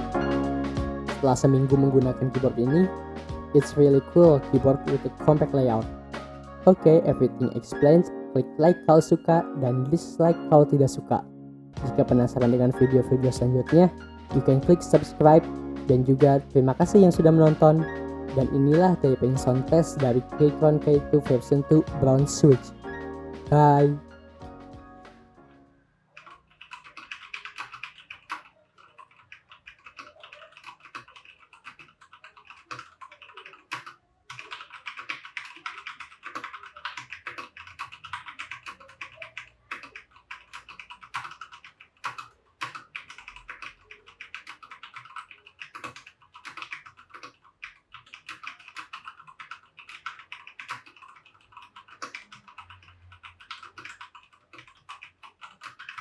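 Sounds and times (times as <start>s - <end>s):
mechanical keyboard typing: 0.0s - 3.0s, 3.6s - 10.5s, 11.9s - 22.9s, 26.1s - 56.0s.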